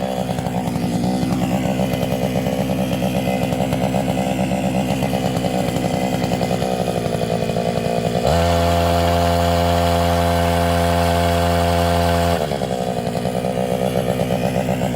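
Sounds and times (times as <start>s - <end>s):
tree-shaker engine pulsing: 0.0s - 14.9s.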